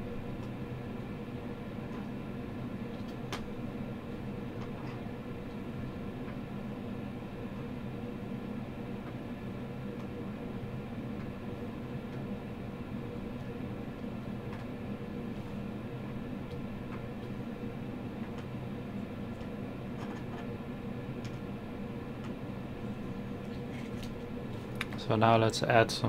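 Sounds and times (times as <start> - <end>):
machine hum with steady tones: 0.0 - 26.0.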